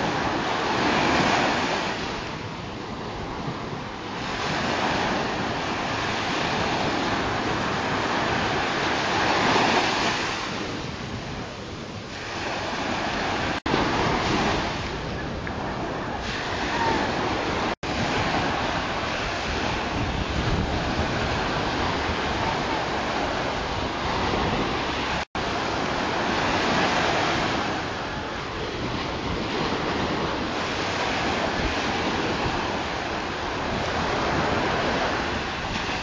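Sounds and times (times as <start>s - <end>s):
surf washing onto beach: 0.0s - 36.0s
wind buffeting microphone: 0.0s - 36.0s.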